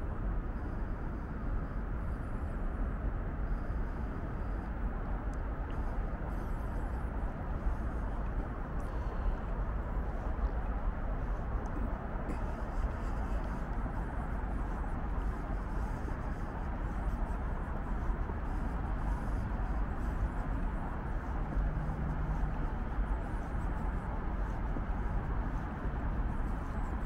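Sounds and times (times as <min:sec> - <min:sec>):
low rumble and hiss: 0:00.0 - 0:27.0.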